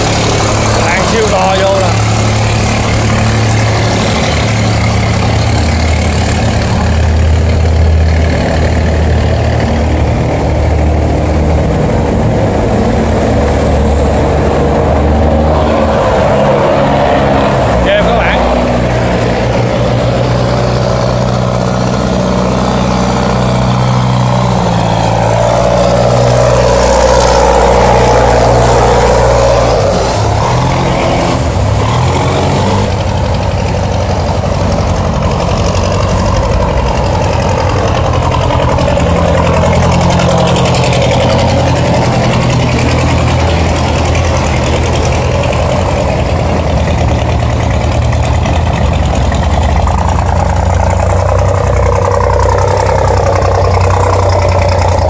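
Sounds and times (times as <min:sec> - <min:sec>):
boat engines running: 0:00.0 - 0:55.0.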